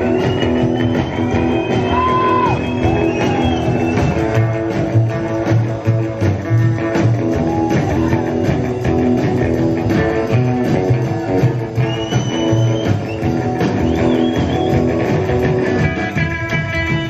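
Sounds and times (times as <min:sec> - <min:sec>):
rockabilly band playing live: 0:00.0 - 0:17.0
upright bass: 0:00.0 - 0:17.0.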